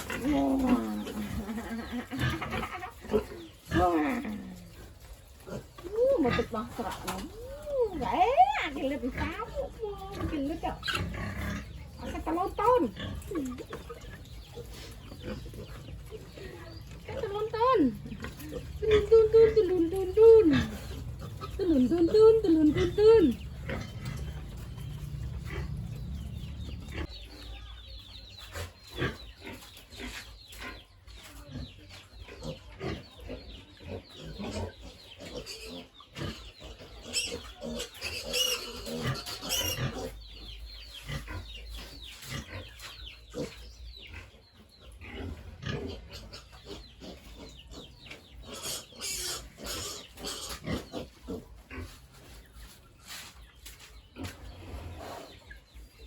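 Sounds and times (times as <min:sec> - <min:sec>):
pigs grunting and squealing: 0:00.0 - 0:27.4, 0:28.4 - 0:52.6.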